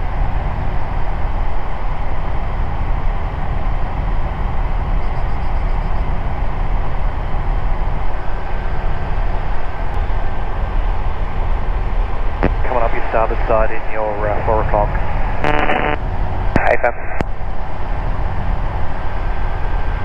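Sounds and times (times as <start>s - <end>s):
aircraft engine and propeller drone: 0.0s - 20.0s.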